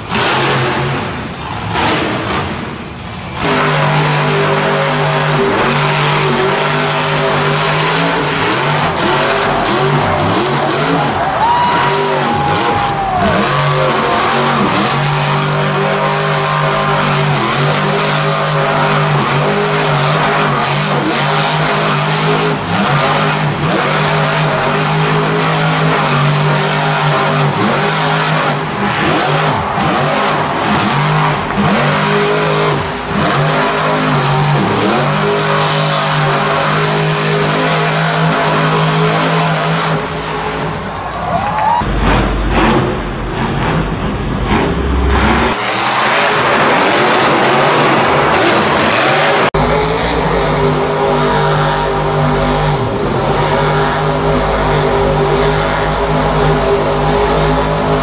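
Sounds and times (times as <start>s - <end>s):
monster truck engine high revs: 0.0s - 58.0s.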